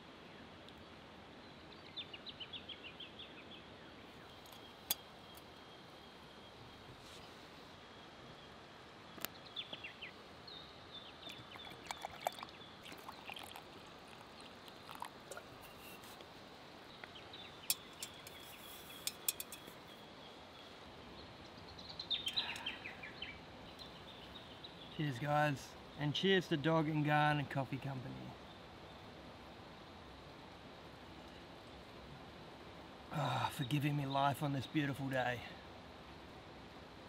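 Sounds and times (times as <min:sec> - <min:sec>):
steady background hiss: 0:00.0 - 0:37.0
birds chirping: 0:00.8 - 0:29.2, 0:33.1 - 0:35.6.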